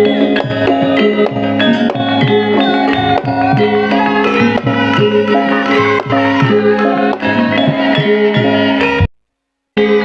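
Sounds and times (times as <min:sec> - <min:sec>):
drum strokes: 0:00.0 - 0:09.1
gamelan ensemble music: 0:00.0 - 0:09.1.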